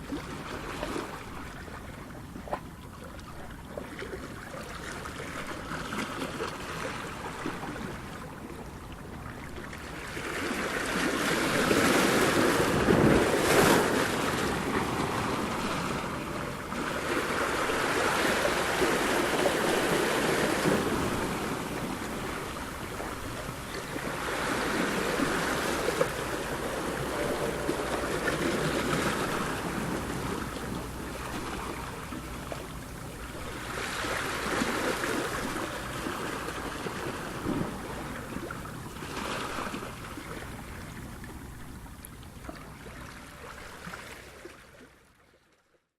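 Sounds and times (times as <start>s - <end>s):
ocean waves breaking: 0.0s - 44.6s.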